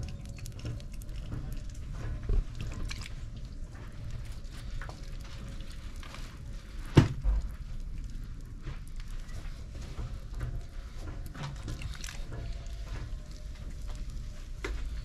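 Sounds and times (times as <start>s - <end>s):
wet clay squelching: 0.0s - 15.0s.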